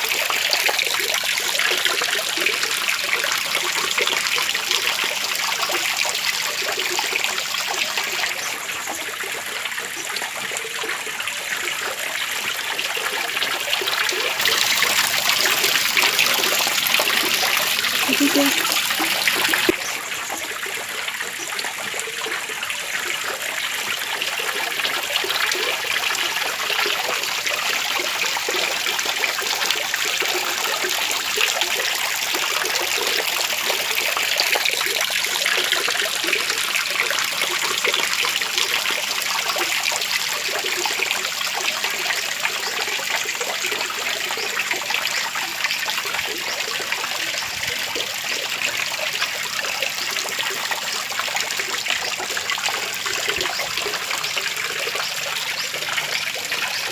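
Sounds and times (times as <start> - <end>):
water trickling down waterfall: 0.0 - 56.9.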